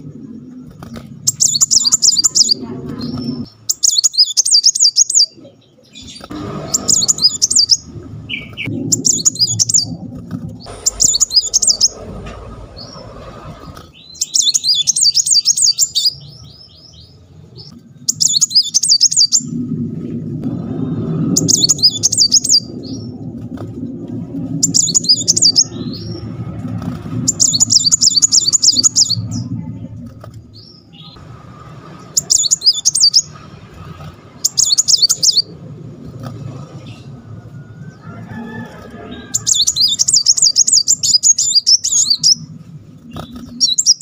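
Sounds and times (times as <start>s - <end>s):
bird singing rattling trills: 0.0s - 19.6s, 21.2s - 23.7s, 24.3s - 31.2s, 32.0s - 44.0s.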